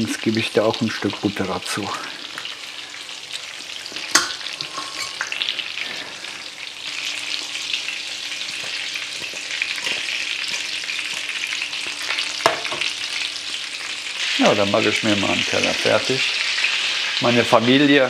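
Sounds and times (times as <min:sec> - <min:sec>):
meat patties sizzling in oil: 0:00.0 - 0:18.0.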